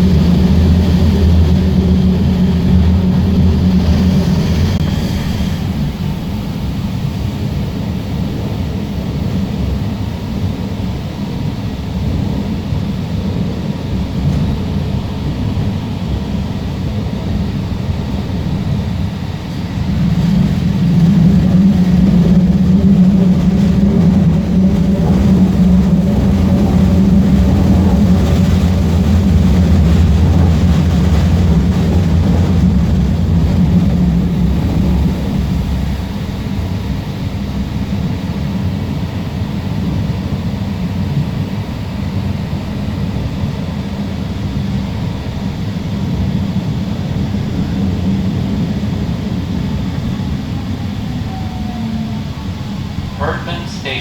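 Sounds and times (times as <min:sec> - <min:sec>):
light-rail train rolling: 0:00.0 - 0:54.0.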